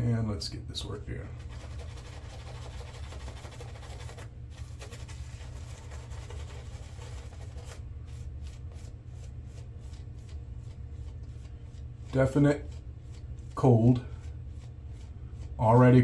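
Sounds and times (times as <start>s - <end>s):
steady low hum: 0.0s - 16.0s
shaving brush swishing on face: 1.4s - 16.0s.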